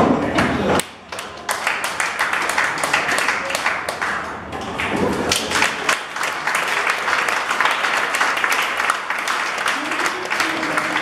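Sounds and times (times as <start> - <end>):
audience applauding: 1.1 - 11.0.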